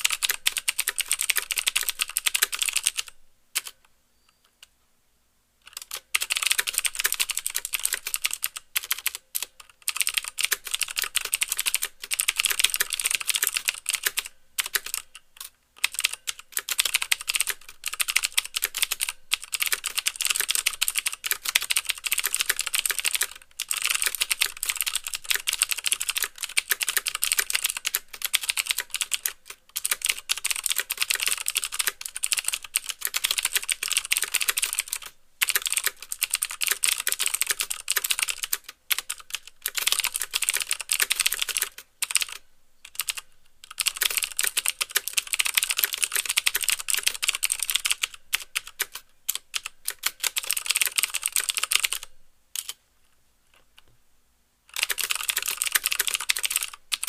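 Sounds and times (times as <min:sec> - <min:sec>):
fast mechanical keyboard typing: 0:00.0 - 0:03.8, 0:05.7 - 0:52.8, 0:54.7 - 0:57.0.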